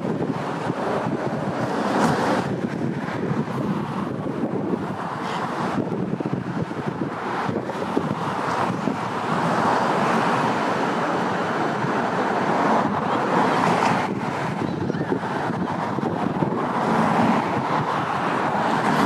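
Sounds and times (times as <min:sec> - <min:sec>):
road traffic: 0:00.0 - 0:19.0
wind on microphone: 0:00.0 - 0:19.0.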